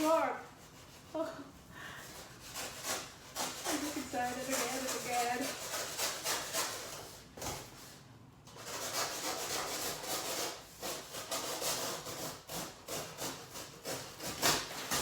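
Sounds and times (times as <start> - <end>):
knife sawing through cardboard: 0.0 - 1.4, 2.0 - 7.7, 8.5 - 15.0.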